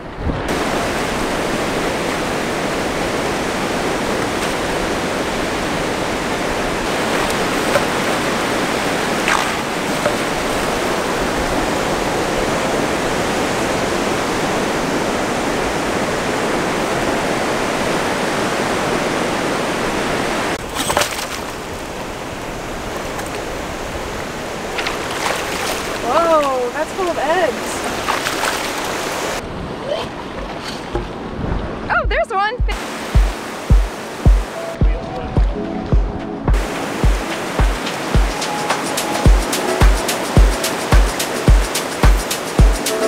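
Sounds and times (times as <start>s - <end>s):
waves breaking on sand: 0.2s - 31.9s, 36.5s - 43.0s.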